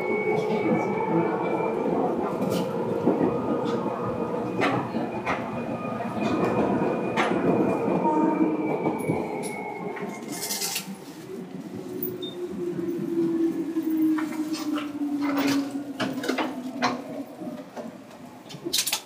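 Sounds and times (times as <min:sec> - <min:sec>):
train car rumbling: 0:00.0 - 0:19.0.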